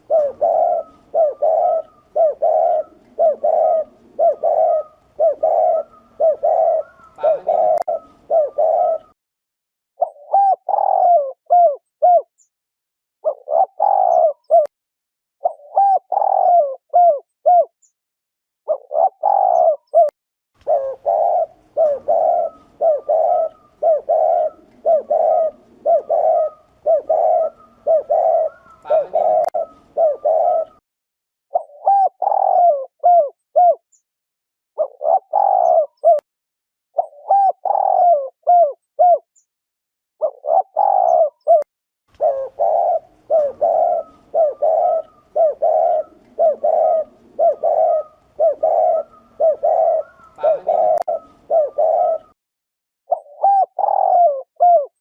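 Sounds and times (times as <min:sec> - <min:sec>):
dove cooing: 0:00.0 - 0:09.2, 0:10.0 - 0:12.3, 0:13.2 - 0:14.7, 0:15.4 - 0:17.7, 0:18.7 - 0:30.8, 0:31.5 - 0:33.8, 0:34.8 - 0:36.2, 0:37.0 - 0:39.3, 0:40.2 - 0:52.4, 0:53.1 - 0:55.0.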